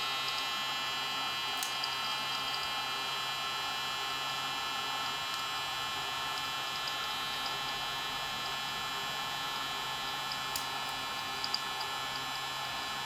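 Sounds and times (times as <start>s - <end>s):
popcorn maker motor humming: 0.0s - 13.0s.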